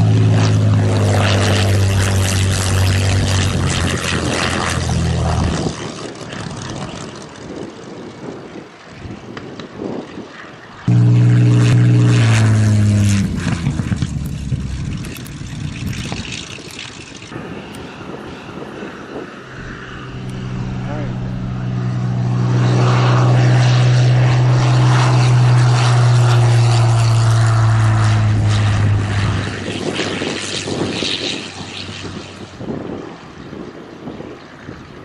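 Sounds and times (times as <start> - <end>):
aircraft engine drone: 0.0 - 9.2, 10.0 - 35.0.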